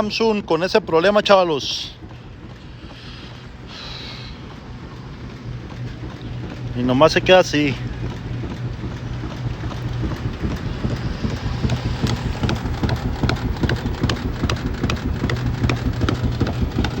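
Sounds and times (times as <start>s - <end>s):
washing machine humming: 0.0s - 17.0s
washing machine rattling: 0.0s - 17.0s.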